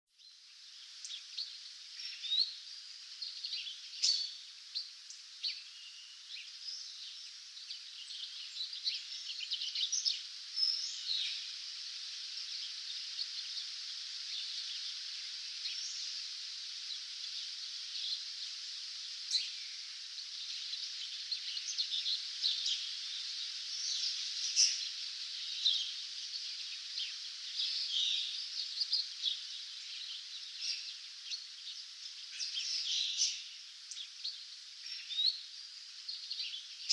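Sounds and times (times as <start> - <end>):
hiss of distant birdsong: 0.1 - 36.9
songbirds chirping and trilling: 0.1 - 36.9.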